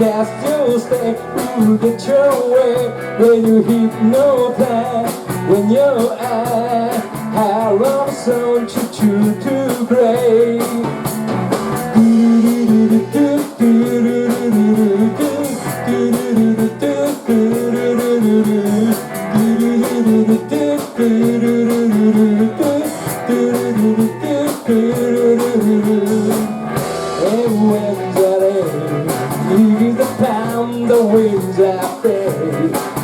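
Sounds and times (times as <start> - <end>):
drum beat: 0.0 - 33.0
guitar: 0.0 - 33.0
rock band playing: 0.0 - 33.0.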